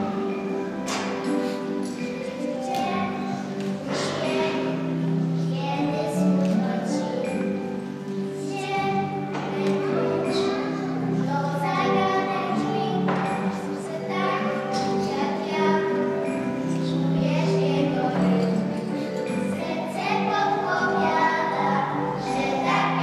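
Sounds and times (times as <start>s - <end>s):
backing music: 0.0s - 23.0s
children singing: 0.0s - 23.0s.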